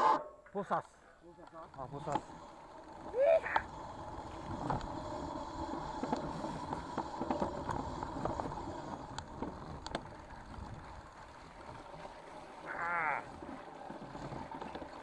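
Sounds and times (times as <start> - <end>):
bike rattling over bumps: 1.3 - 15.0
bike tyres rolling over leaves: 1.3 - 15.0.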